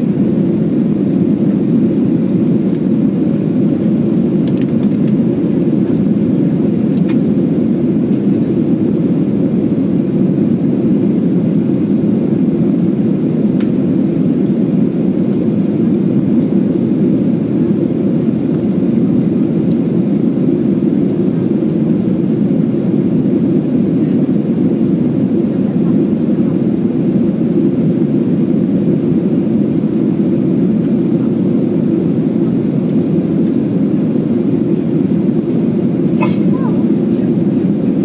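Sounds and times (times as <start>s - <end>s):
airflow over fuselage: 0.0s - 38.0s
jet engines at climb thrust: 0.0s - 38.0s.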